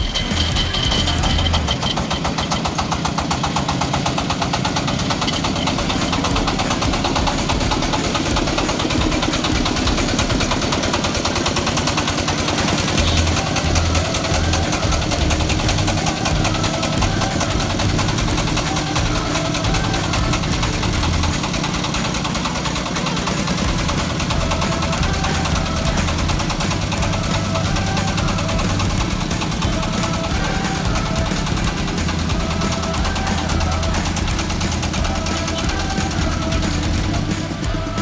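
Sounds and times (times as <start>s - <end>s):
diesel engine knocking steadily: 0.0s - 38.0s.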